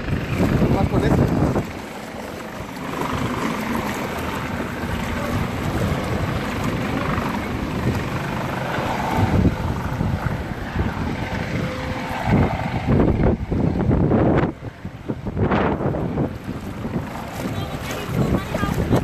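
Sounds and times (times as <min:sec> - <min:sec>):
floodwater sloshing around legs: 0:00.0 - 0:12.8, 0:15.7 - 0:19.0
wind buffeting microphone: 0:00.0 - 0:19.0.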